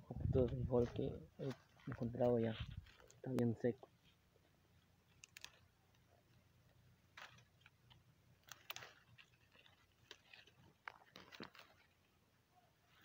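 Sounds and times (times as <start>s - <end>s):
dry plants crackling and snapping: 0.4s - 3.5s, 4.7s - 12.2s.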